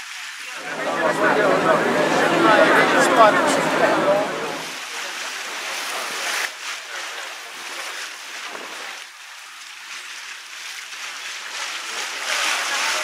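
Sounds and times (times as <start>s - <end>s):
water wash and spray hissing: 0.0s - 13.0s.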